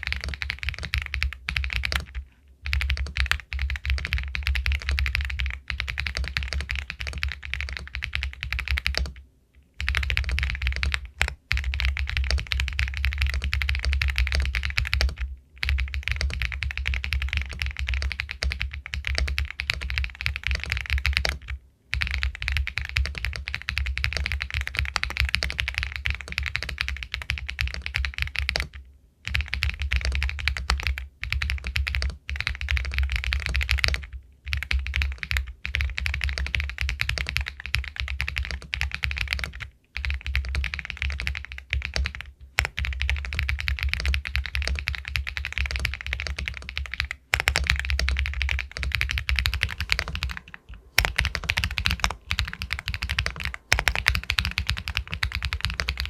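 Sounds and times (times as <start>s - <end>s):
mechanical keyboard typing: 0.0s - 9.2s, 9.8s - 56.0s.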